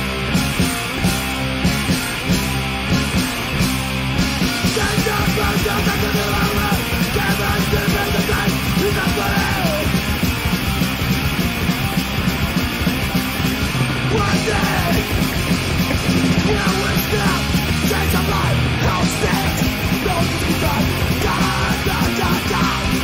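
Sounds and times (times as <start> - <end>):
hardcore punk band playing: 0.0 - 23.0.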